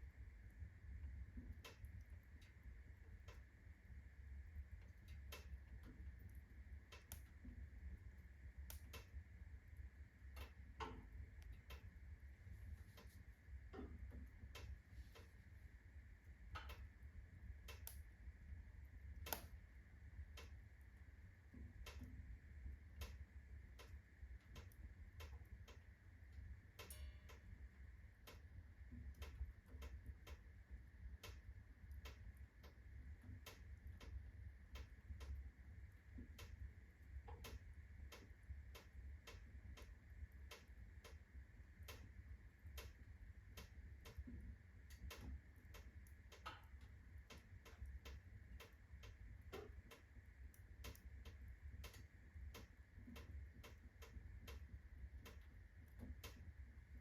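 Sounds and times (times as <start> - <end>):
fire crackling and popping: 0.0 - 57.0
low steady fire rumble: 0.0 - 57.0.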